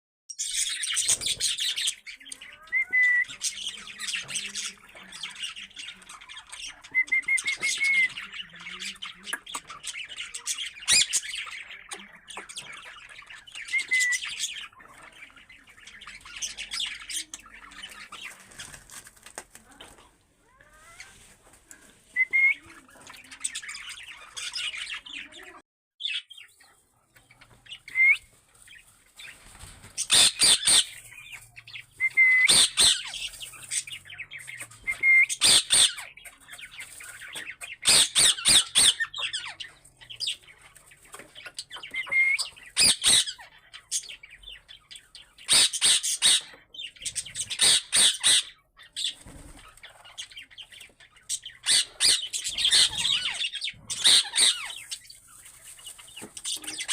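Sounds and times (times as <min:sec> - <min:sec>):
parrots squawking: 0:00.4 - 0:18.7, 0:22.2 - 0:29.4, 0:30.0 - 0:56.9.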